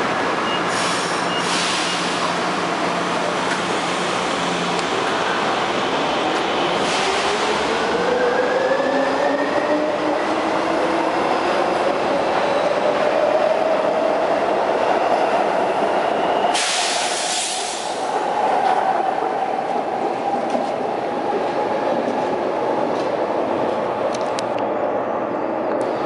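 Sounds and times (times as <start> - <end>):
subway traction motors whining: 0.0 - 26.0.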